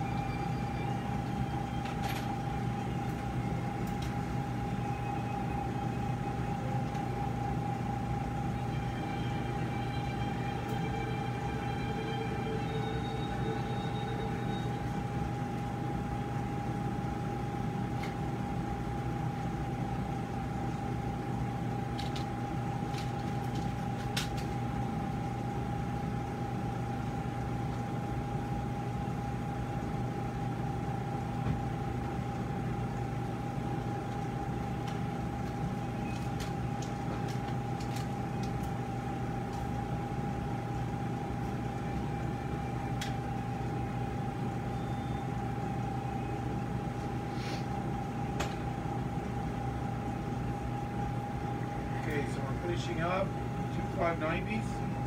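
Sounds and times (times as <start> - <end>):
machine hum with steady tone: 0.0 - 55.0.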